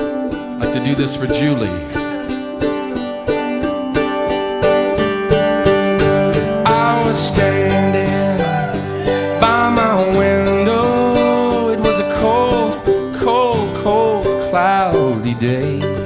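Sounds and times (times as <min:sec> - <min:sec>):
guitar playing: 0:00.0 - 0:16.0
plucked banjo: 0:00.0 - 0:16.0.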